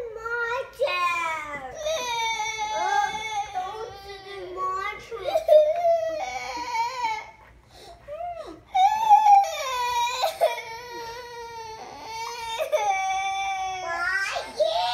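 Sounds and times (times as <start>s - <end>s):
girl crying: 1.8s - 7.4s, 8.0s - 14.9s.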